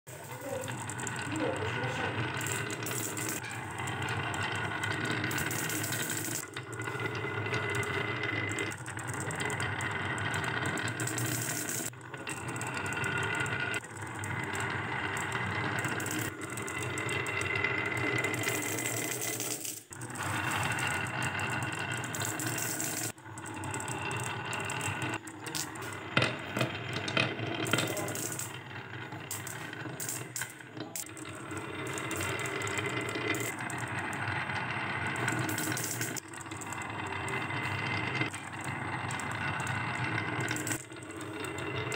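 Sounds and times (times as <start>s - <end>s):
marbles clicking together: 0.1s - 41.9s
marbles rolling on wooden track: 0.1s - 41.9s.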